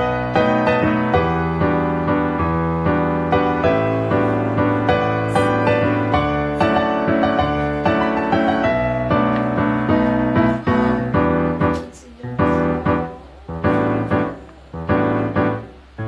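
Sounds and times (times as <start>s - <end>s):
piano music with bass line: 0.0s - 16.0s.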